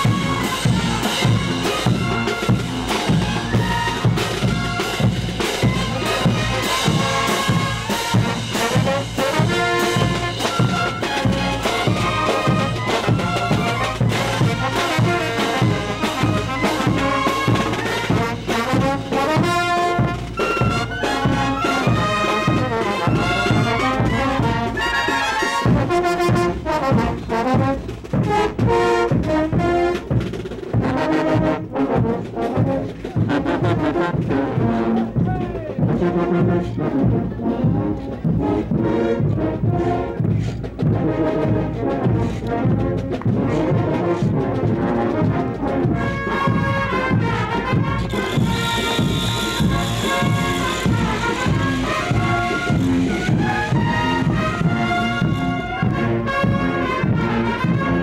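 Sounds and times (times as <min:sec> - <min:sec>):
marching brass band playing: 0:00.0 - 0:58.0.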